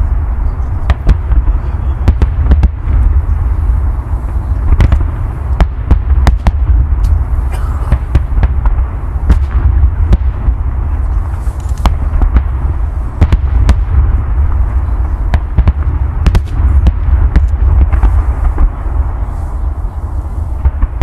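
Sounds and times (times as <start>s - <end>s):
fireworks bangs and pops: 0.0s - 19.9s, 20.5s - 21.0s
fireworks rumbling: 0.0s - 21.0s.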